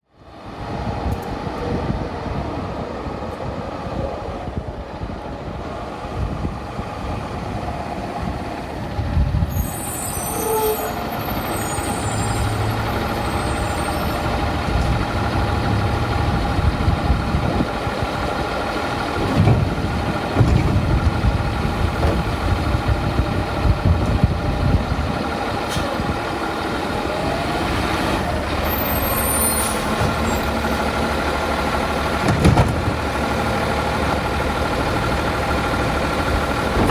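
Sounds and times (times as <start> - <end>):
garbage truck diesel engine running: 0.4 - 36.9.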